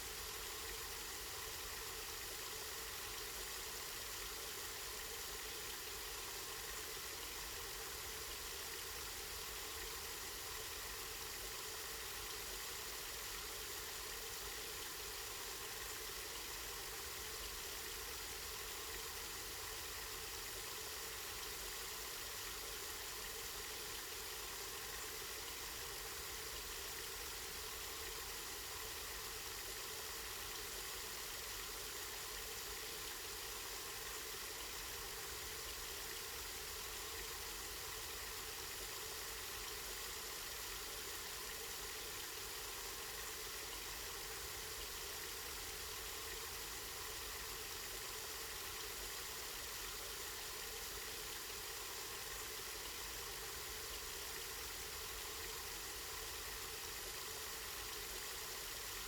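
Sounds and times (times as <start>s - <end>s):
spring water running and splashing: 0.0s - 59.0s.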